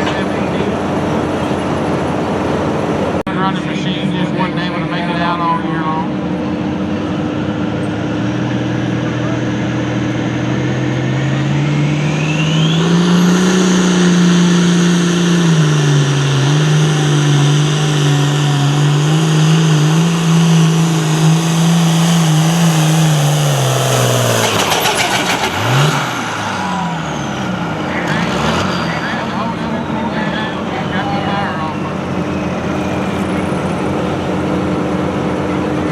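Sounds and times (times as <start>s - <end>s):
tractor engine revving: 0.0s - 35.9s
turbo whine: 0.0s - 35.9s.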